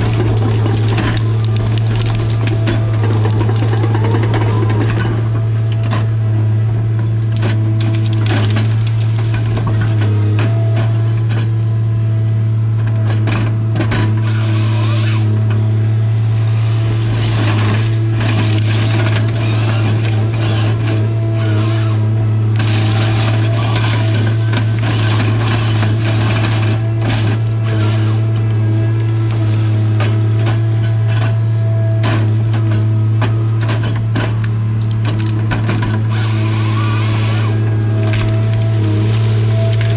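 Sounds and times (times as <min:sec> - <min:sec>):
wood cracking and snapping: 0:00.0 - 0:06.2, 0:06.8 - 0:11.6, 0:15.0 - 0:39.9
diesel engine and hydraulics droning: 0:00.0 - 0:39.9.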